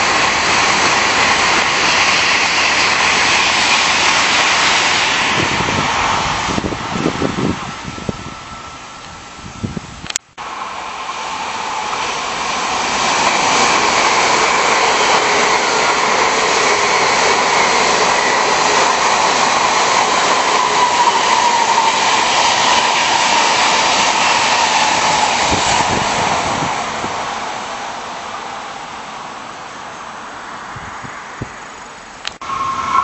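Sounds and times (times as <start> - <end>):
high-speed train passing: 0.0 - 33.0.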